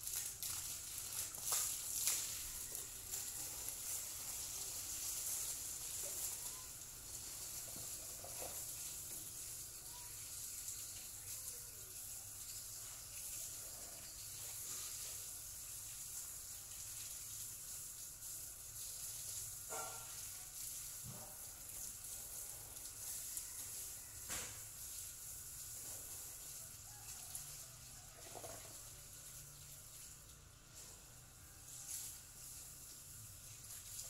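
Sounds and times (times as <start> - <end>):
water spraying from hose: 0.0 - 34.0.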